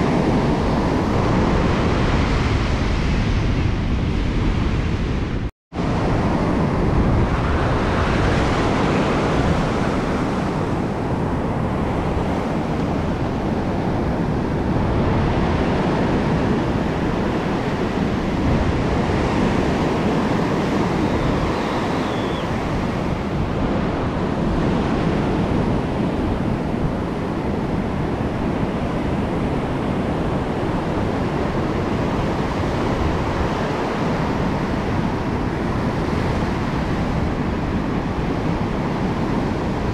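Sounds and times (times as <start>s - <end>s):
wind buffeting microphone: 0.0s - 39.9s
surf breaking on beach: 5.8s - 39.9s.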